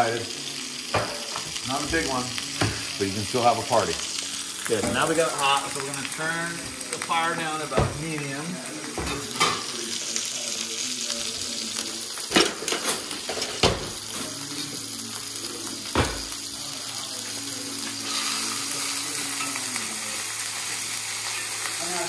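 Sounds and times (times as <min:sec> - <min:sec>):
meat sizzling in a skillet: 0:00.0 - 0:22.0.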